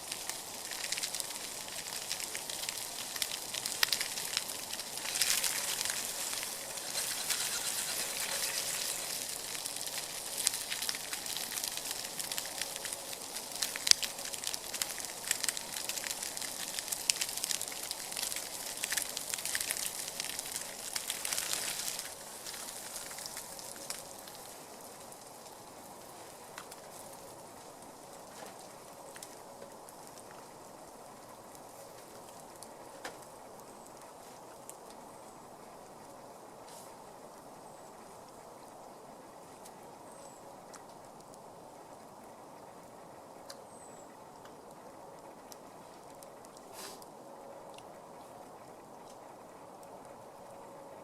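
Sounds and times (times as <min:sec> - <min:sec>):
wood fire crackling and hissing: 0:00.0 - 0:51.0.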